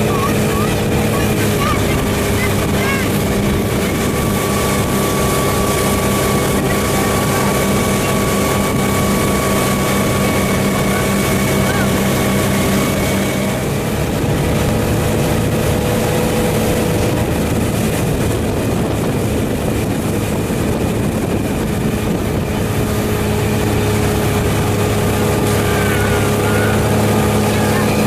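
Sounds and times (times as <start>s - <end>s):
motorboat engine running: 0.0s - 28.0s
wind and water rushing: 0.0s - 28.0s.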